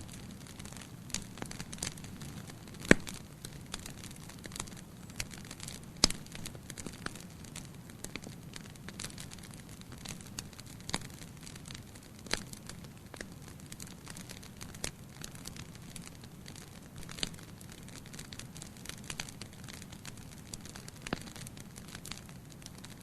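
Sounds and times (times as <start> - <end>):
loud fire pops: 0.0 - 22.9
campfire crackling: 0.0 - 23.0.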